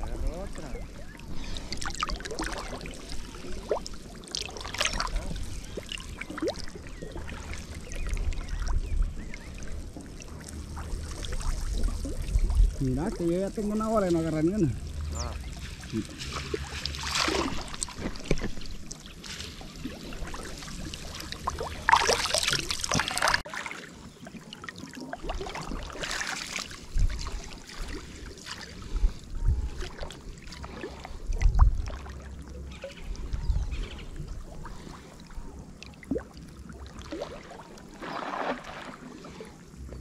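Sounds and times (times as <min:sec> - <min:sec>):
water splashing beside a boat: 0:00.0 - 0:40.0.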